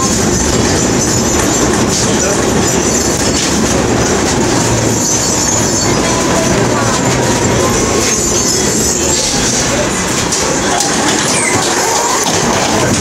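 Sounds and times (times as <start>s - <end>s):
rail clacks: 0.0s - 13.0s
tram wheels rumbling on rails: 0.0s - 13.0s.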